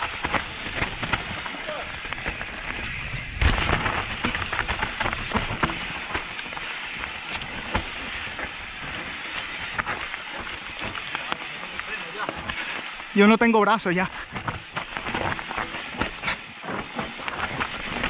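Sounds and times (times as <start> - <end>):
bike rattling over bumps: 0.0 - 18.0
tyres crackling through leaves: 0.0 - 18.0.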